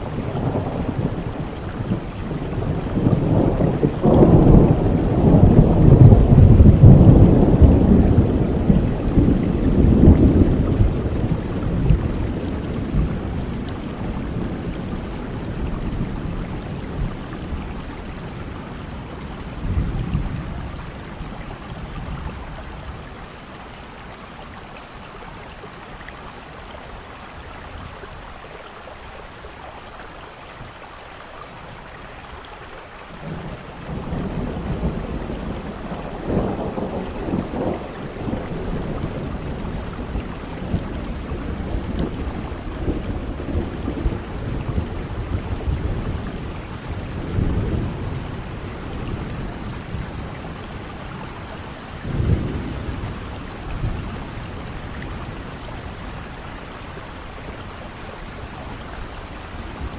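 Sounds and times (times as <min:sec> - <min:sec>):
rolling thunder: 0:00.0 - 0:23.2, 0:33.2 - 0:59.9
rain falling: 0:00.0 - 0:59.9.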